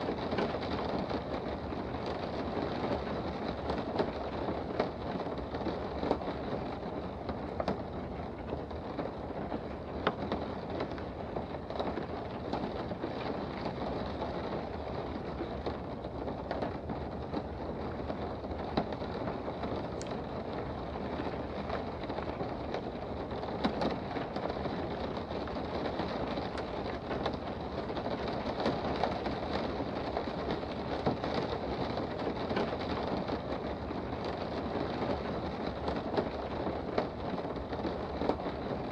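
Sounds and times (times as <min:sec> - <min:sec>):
rain heard from indoors: 0:00.0 - 0:38.9.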